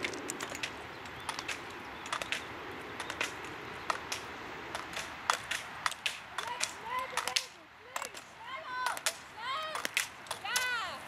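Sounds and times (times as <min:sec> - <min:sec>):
poles clicking on asphalt: 0:00.0 - 0:11.0.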